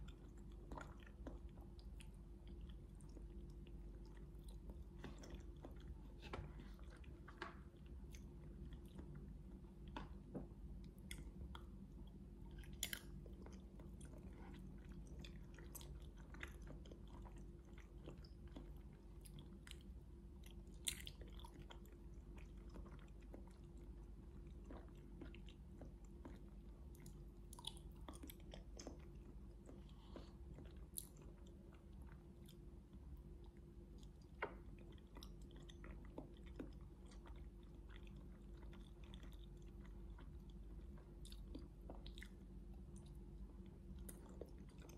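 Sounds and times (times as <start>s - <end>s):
chewing and biting food: 0.0s - 44.9s
steady low hum: 0.0s - 44.9s.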